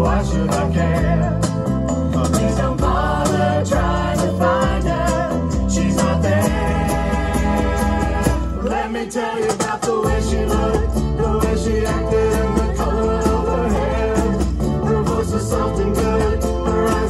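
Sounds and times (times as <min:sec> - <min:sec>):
bass line: 0:00.0 - 0:08.9, 0:10.0 - 0:17.0
strummed ukuleles: 0:00.0 - 0:17.0
voices singing: 0:00.0 - 0:17.0.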